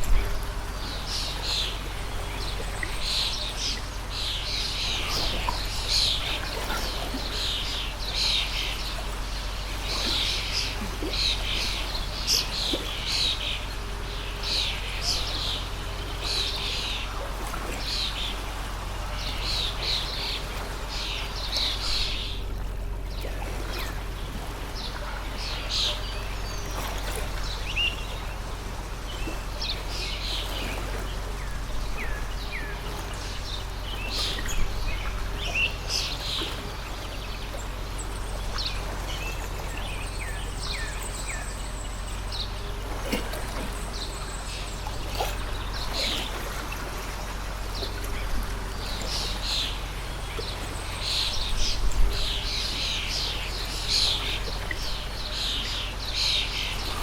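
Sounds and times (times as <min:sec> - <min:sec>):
small birds chirping: 0:00.0 - 0:57.0
water stream rushing: 0:00.0 - 0:57.0.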